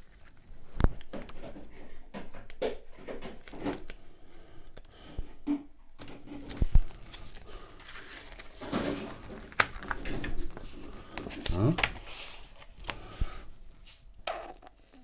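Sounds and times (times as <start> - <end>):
paper pages flipping and rustling: 0.0 - 4.0, 6.0 - 15.0.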